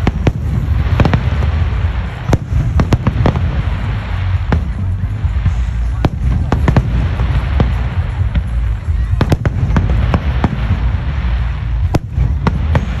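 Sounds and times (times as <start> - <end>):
continuous low rumble: 0.0 - 13.0
fireworks bursting: 0.0 - 13.0.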